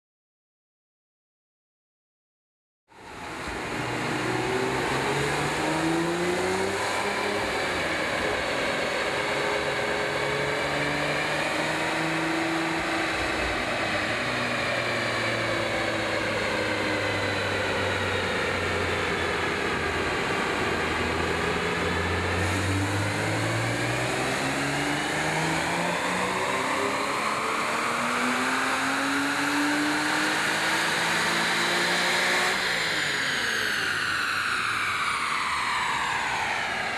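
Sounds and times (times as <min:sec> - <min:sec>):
car engine running on a dyno: 0:03.0 - 0:36.9.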